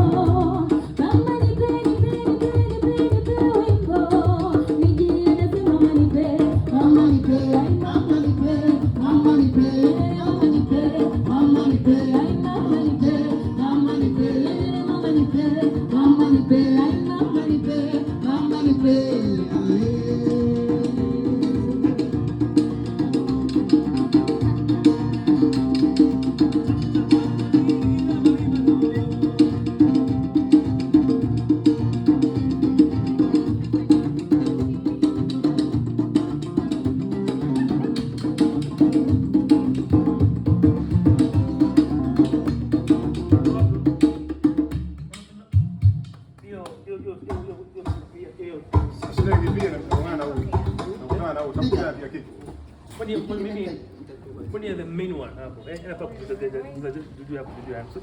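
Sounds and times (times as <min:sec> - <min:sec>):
drums and percussion rhythm: 0:00.0 - 0:54.8.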